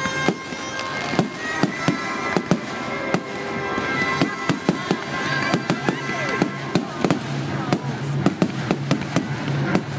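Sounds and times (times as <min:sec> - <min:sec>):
fireworks bangs and cracks: 0:00.0 - 0:09.9
music over loudspeakers: 0:00.0 - 0:09.9.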